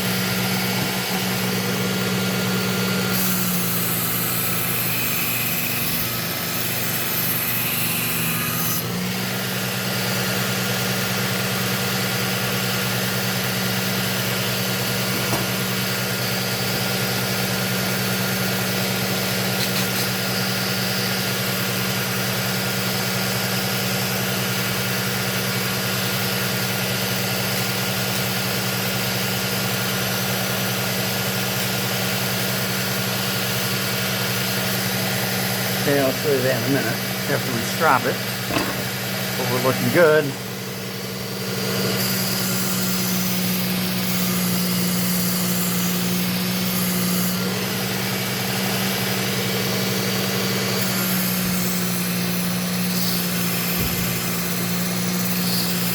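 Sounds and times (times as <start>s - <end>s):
belt sharpener motor humming: 0.0s - 25.1s, 32.4s - 55.9s.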